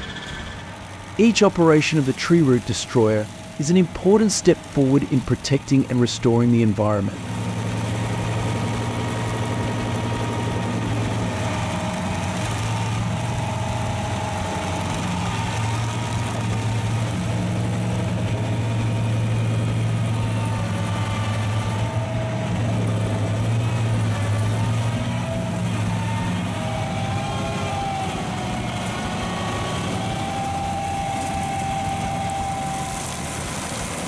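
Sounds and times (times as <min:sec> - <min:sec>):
machine engine running: 0:00.0 - 0:34.0.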